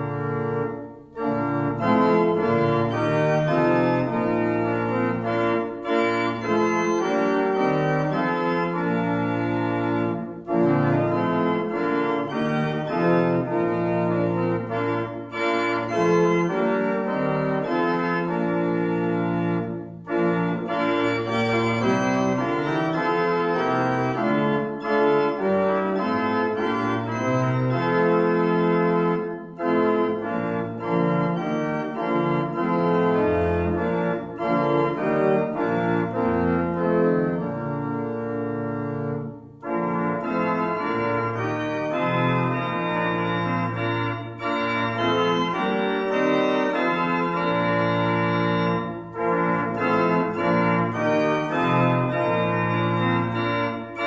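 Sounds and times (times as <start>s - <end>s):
church organ playing a hymn: 0.0s - 54.0s.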